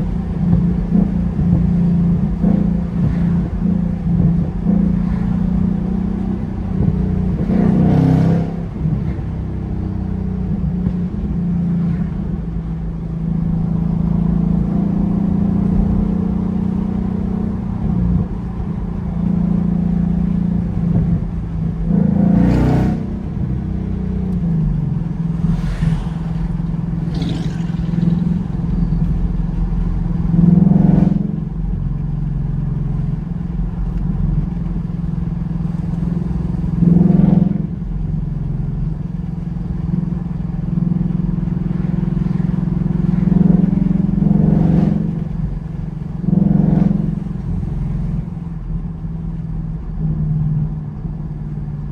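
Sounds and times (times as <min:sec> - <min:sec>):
car engine and exhaust droning: 0:00.0 - 0:51.9.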